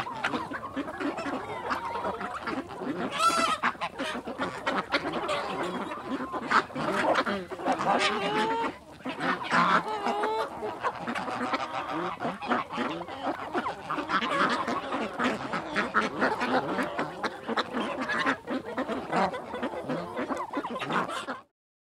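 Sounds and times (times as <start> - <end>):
ducks quacking: 0.0 - 21.5
geese honking: 0.0 - 21.5.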